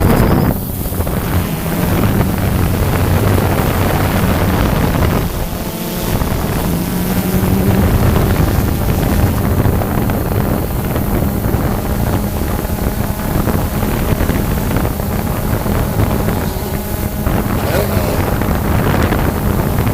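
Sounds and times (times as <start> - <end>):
steady motor hum: 0.0 - 19.9
wind noise on microphone: 0.0 - 19.9.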